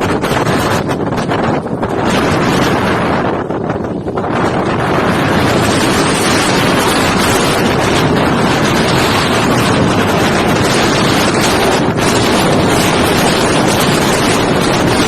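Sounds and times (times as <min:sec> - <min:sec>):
storm wind blasting microphone: 0:00.0 - 0:15.0.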